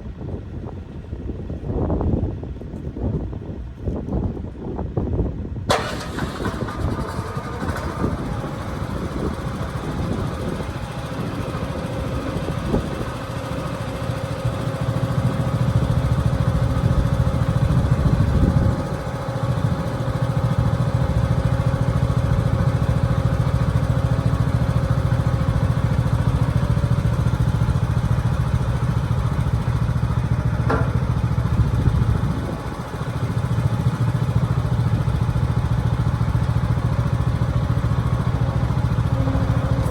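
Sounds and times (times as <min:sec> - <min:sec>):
engine running under load: 0:05.4 - 0:39.9.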